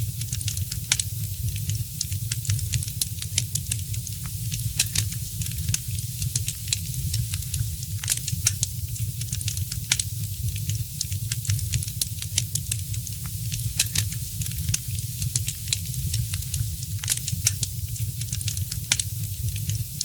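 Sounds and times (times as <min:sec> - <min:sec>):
wood fire crackling in fireplace: 0:00.0 - 0:20.0.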